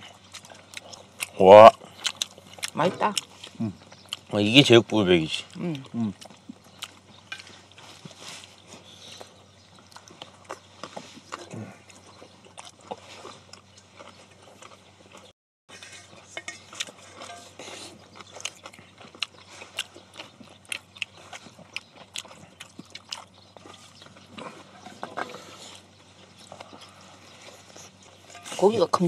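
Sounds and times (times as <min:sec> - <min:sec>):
chewing and crunching: 0:00.0 - 0:29.0.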